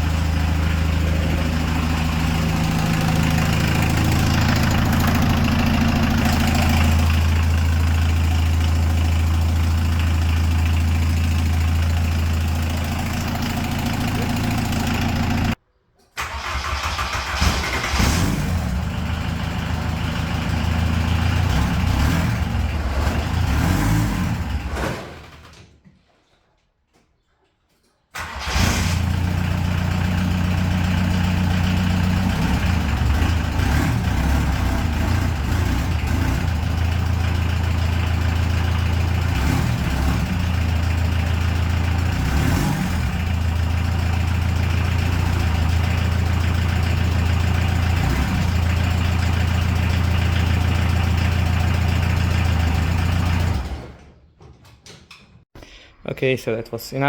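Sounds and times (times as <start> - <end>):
diesel engine running: 0.0 - 15.6, 16.4 - 25.4, 28.2 - 54.0.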